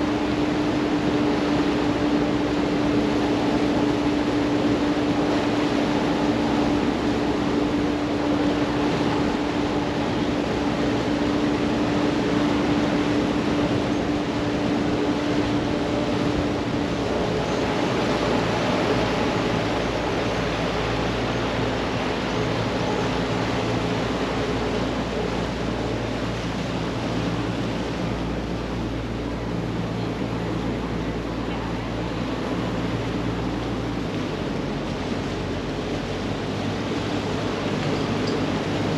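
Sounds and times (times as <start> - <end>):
boat engine drone: 0.0 - 38.9
water rushing: 0.0 - 38.9
wind: 0.0 - 38.9.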